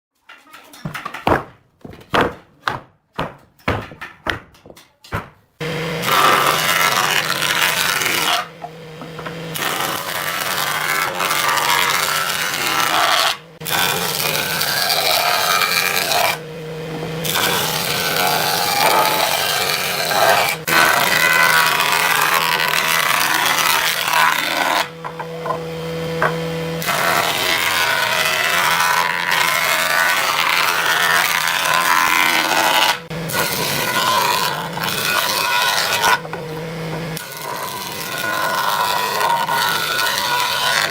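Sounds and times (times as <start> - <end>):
power tool cutting wood: 5.6 - 40.9
power tool motor humming: 5.6 - 40.9.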